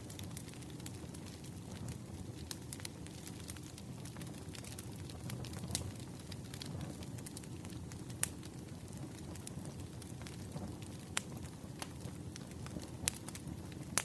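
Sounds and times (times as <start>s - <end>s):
firewood crackles and pops: 0.0s - 14.0s
low rumble of flames: 0.0s - 14.0s.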